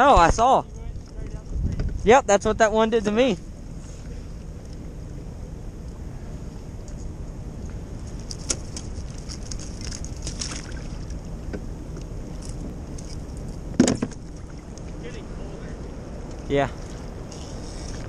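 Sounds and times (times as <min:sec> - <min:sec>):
moving water: 0:00.0 - 0:18.0
wind: 0:00.0 - 0:18.0.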